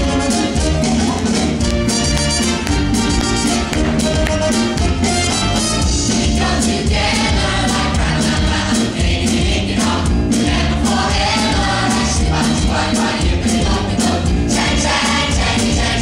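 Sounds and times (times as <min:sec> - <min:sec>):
band accompaniment: 0:00.0 - 0:16.0.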